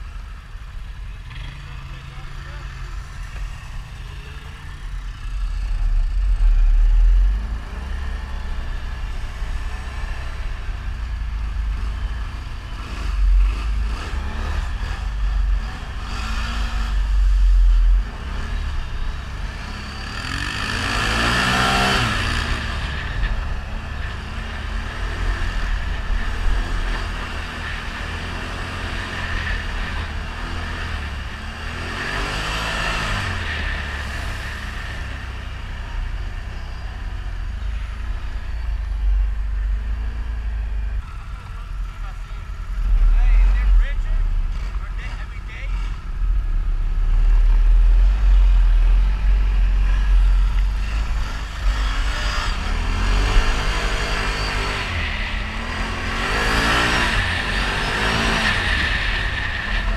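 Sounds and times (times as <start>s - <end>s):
atv engine rumbling: 0.0s - 59.9s.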